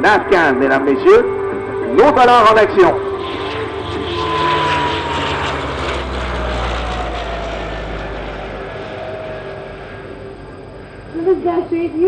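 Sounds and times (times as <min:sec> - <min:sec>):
turboprop plane flying past: 0:00.0 - 0:12.0.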